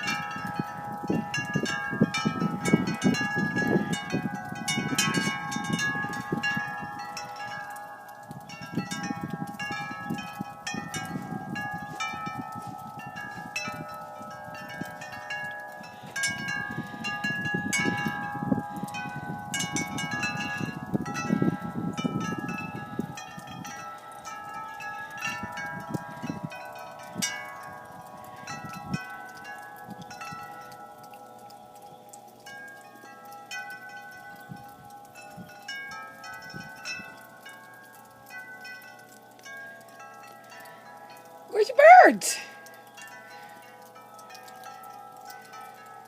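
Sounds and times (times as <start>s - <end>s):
wind chimes ringing: 0.0s - 46.0s.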